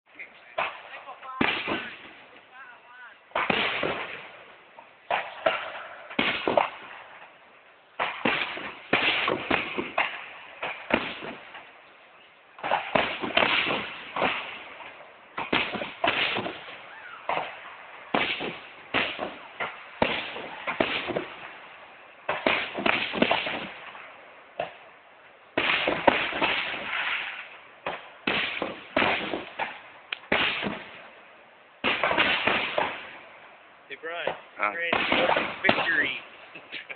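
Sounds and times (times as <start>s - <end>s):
fireworks bangs echoing: 0.1s - 11.8s, 12.5s - 36.9s.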